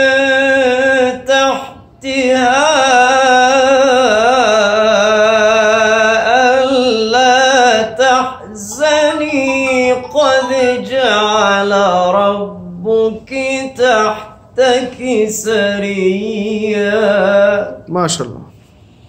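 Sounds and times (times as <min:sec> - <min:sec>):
man chanting recitation: 0:00.0 - 0:18.5.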